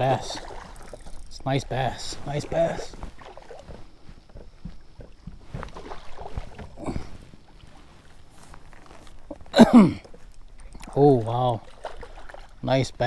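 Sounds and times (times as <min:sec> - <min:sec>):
faint water noise: 0:00.0 - 0:13.0.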